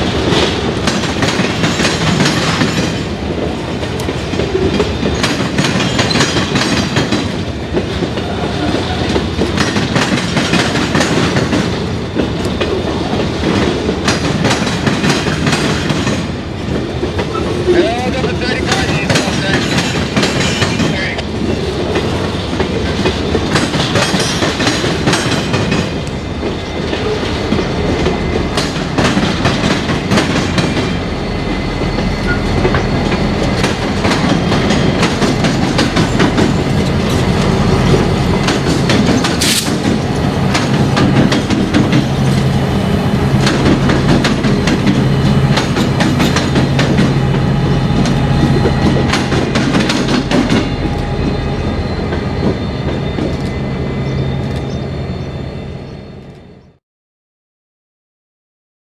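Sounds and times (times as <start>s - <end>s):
train wheels clattering: 0.0s - 55.4s.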